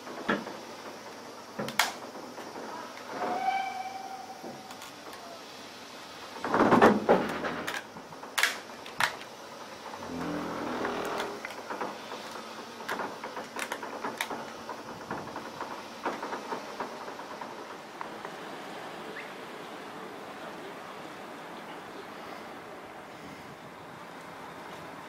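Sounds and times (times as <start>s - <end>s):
clanking rumble of carriages: 0.0s - 22.9s
carriages rattling on rails: 0.0s - 23.0s.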